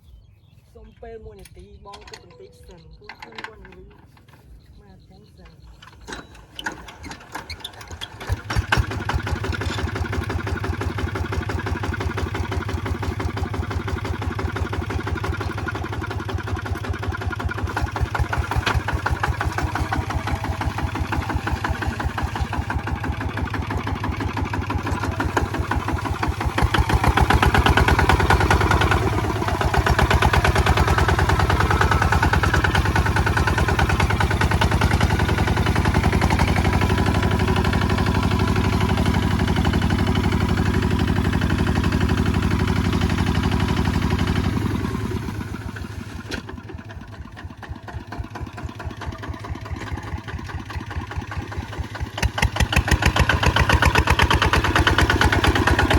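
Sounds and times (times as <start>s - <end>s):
diesel engine chugging: 0.9s - 55.9s.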